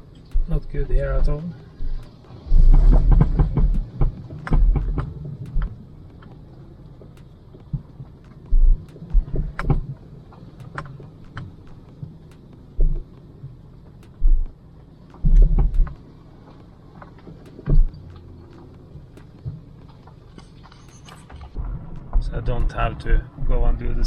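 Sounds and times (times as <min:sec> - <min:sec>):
low rumble of driving: 0:00.0 - 0:24.0
suspension knocking and clunking: 0:00.1 - 0:05.9, 0:07.0 - 0:10.0, 0:10.6 - 0:16.7, 0:17.3 - 0:23.7.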